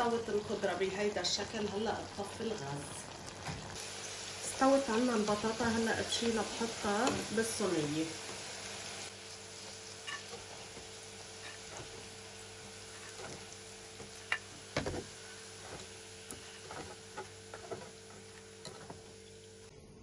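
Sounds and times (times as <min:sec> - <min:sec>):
potatoes sizzling in hot oil: 0:00.0 - 0:19.7.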